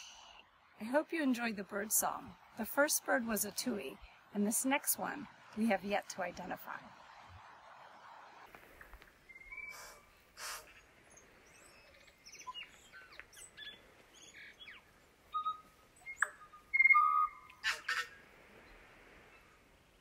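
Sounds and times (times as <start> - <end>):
songbird singing: 0.0 - 19.6.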